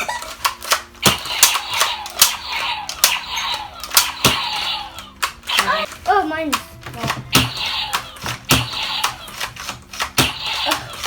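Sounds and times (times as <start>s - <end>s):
toy blaster firing snaps: 0.4s - 5.9s, 7.3s - 11.0s.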